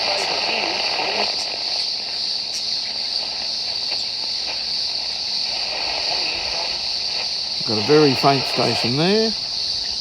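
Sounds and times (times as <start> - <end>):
radio tuned between stations: 0.0 - 4.7, 5.5 - 9.4
cicadas droning: 0.0 - 10.0.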